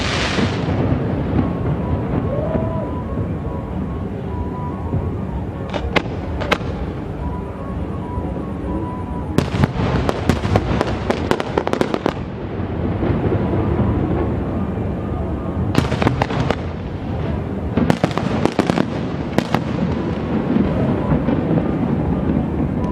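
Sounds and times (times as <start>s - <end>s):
fireworks cracking and crackling: 0.0s - 22.9s.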